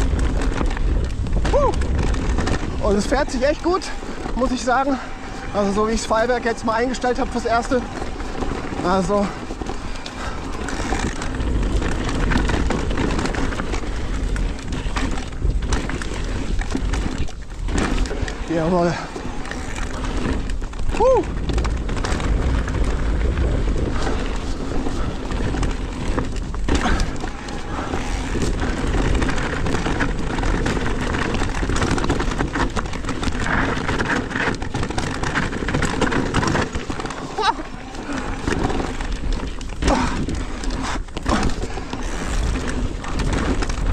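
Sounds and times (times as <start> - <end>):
bike clicks and rattles: 0.0 - 43.9
tyres crackling over dirt: 0.0 - 43.9
wind rumble on microphone: 0.0 - 43.9.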